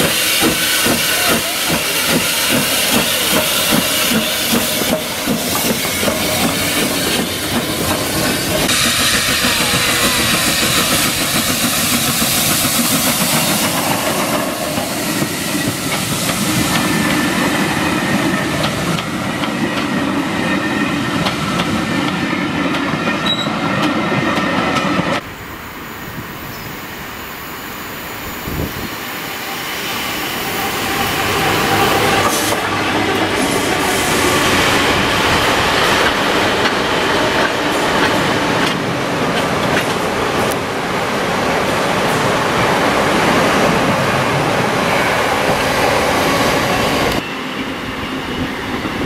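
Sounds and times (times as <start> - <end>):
freight train rumble: 0.0 - 49.0.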